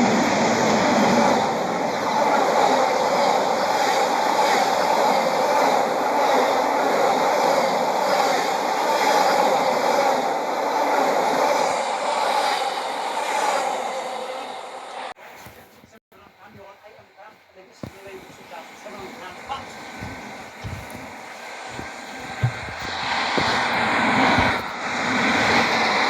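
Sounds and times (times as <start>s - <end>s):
train wheels rushing on rail: 0.0s - 15.6s, 17.8s - 26.0s.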